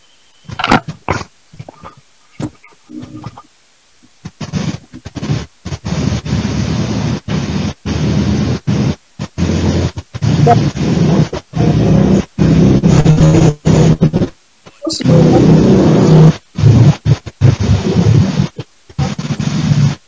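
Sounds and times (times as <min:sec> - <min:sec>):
harsh noise through video call: 0:00.0 - 0:20.0.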